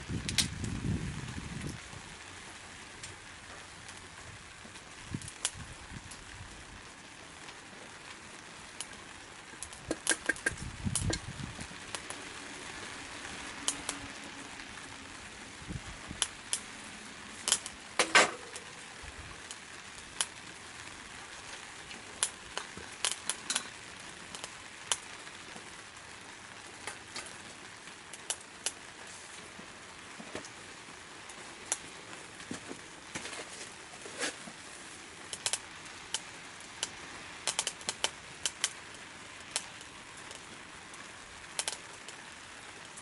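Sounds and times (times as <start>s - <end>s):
wood fire crackling in a stove: 0.0s - 43.0s.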